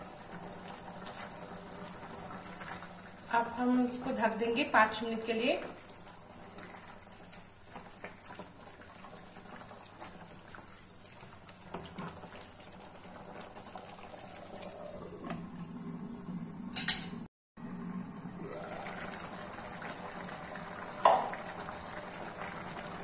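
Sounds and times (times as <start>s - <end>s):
curry bubbling: 0.0s - 15.7s, 17.8s - 23.0s.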